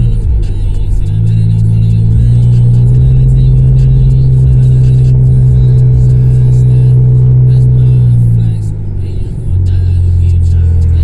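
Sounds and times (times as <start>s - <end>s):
loud engine exhaust drone: 0.0s - 11.0s.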